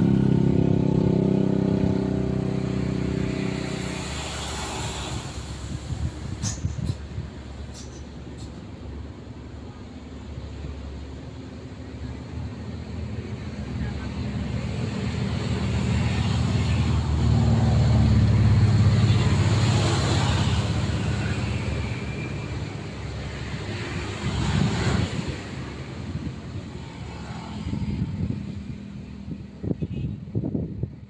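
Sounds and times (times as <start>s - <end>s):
excavator diesel engine: 0.0s - 29.5s.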